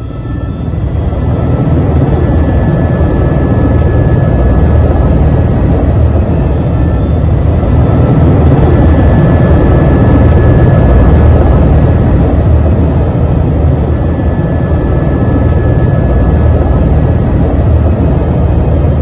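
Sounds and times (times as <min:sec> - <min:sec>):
faint high whine: 0:00.0 - 0:19.0
helicopter engine and rotor drone: 0:00.0 - 0:19.0.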